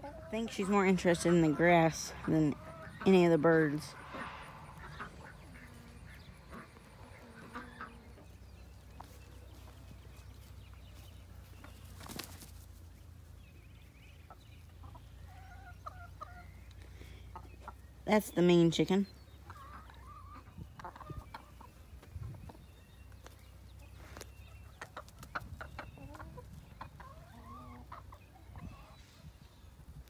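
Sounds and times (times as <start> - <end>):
hens clucking: 0.0 - 29.4.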